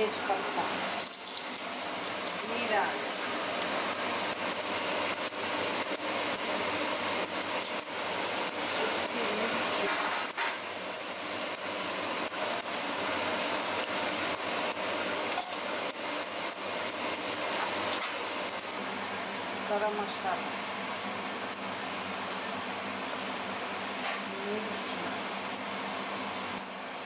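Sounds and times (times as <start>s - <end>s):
spices sizzling in hot oil: 0.0s - 26.9s.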